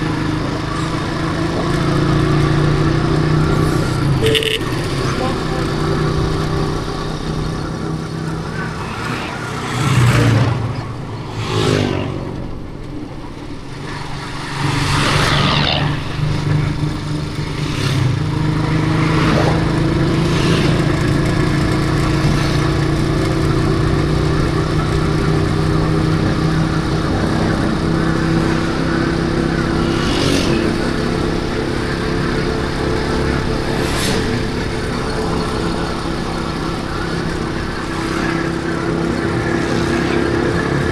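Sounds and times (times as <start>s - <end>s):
motorcycle engine running: 0.0s - 11.4s, 12.0s - 40.9s
passing traffic rushes: 0.0s - 40.9s.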